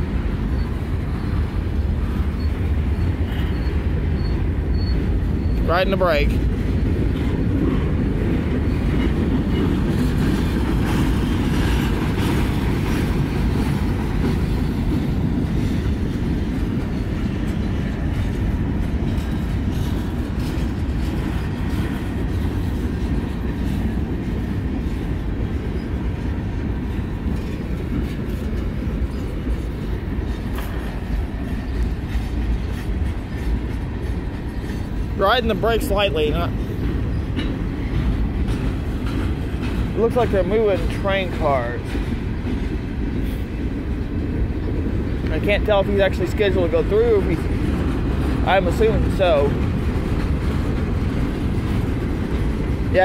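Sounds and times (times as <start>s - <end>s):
clickety-clack at rail joints: 0.0s - 53.0s
freight train wheels rumbling: 0.0s - 53.0s.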